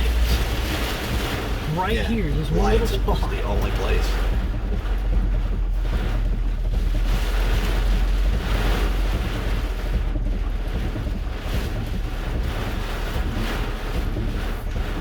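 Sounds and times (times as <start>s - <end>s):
strong wind roaring: 0.0s - 15.0s.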